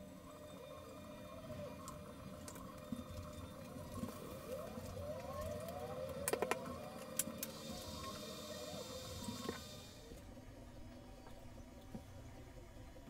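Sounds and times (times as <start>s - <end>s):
low steady room hum: 0.0s - 13.0s.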